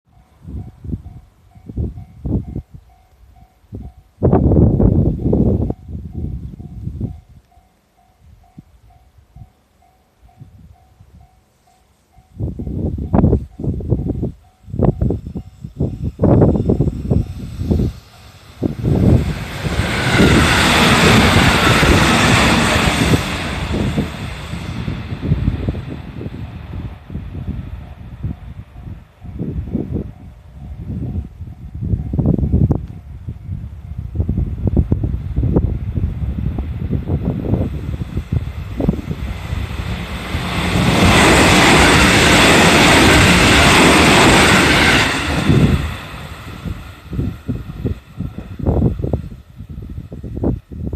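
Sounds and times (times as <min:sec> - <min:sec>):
train passing at speed: 0:00.1 - 0:50.9.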